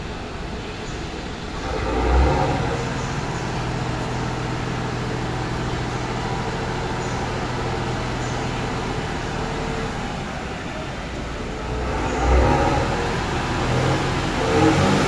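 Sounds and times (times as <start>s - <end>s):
diesel railcar engine humming: 0.0s - 15.0s.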